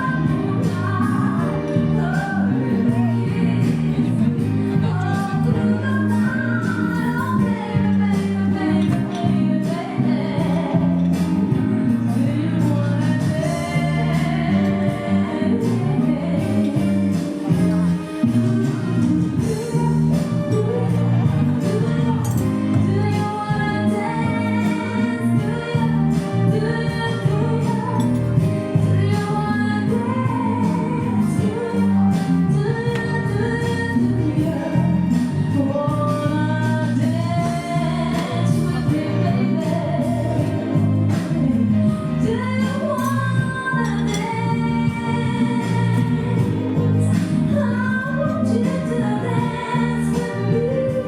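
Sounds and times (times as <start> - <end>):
upbeat band with steady beat: 0.0 - 51.0
woman singing: 0.0 - 51.0.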